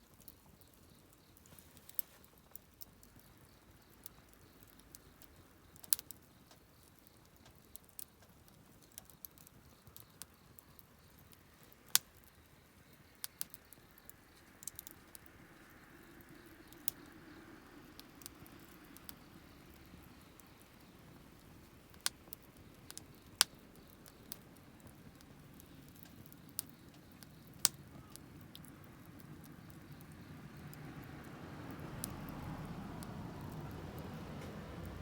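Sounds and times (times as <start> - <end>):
faint hiss: 0.0 - 35.0
wood fire crackling: 0.0 - 35.0.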